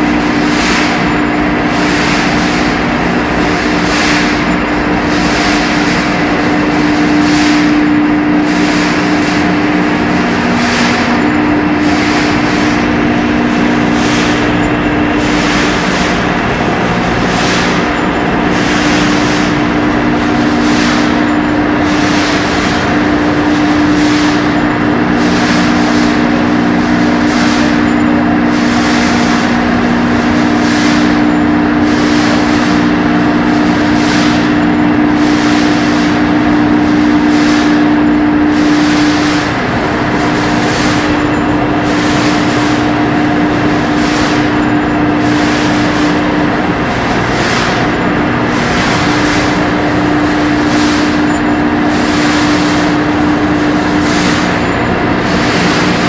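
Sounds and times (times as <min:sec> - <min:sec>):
machinery droning: 0:00.0 - 0:56.0.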